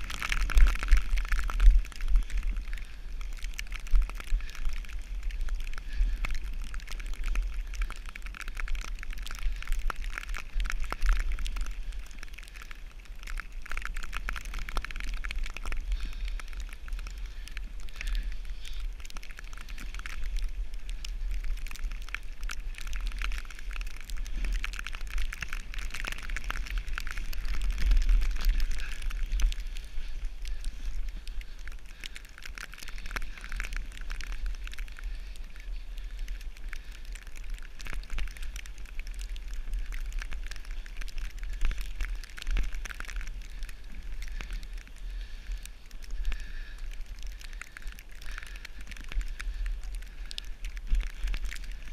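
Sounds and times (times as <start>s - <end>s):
wind rumbling on microphone: 0.0s - 51.9s.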